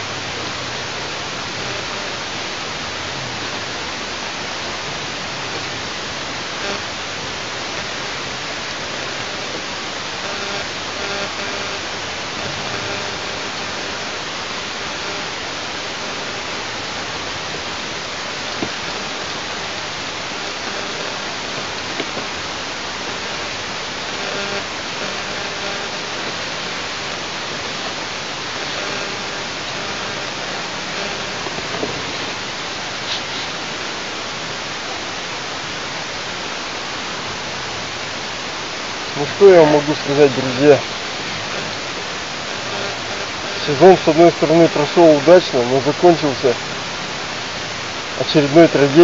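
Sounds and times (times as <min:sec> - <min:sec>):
microphone hiss: 0:00.0 - 0:49.0.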